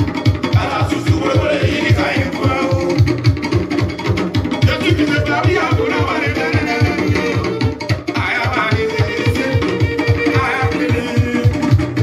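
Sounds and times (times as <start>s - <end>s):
upbeat dance music: 0.0s - 12.0s.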